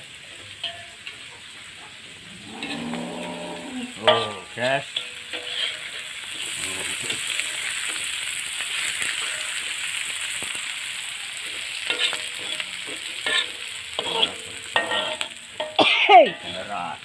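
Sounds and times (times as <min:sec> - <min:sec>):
vegetables sizzling in a wok: 0:00.0 - 0:17.0
metal spatula scraping a wok: 0:00.2 - 0:17.0.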